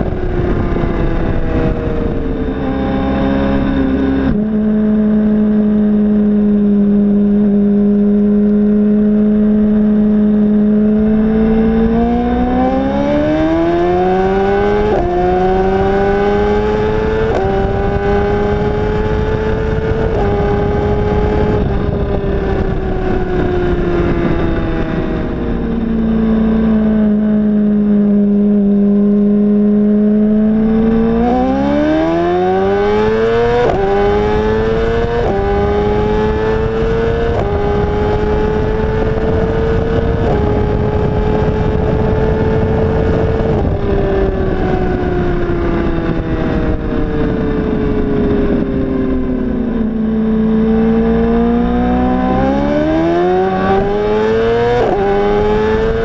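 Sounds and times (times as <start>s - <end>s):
motorcycle engine revving with upshifts: 0.0s - 56.0s.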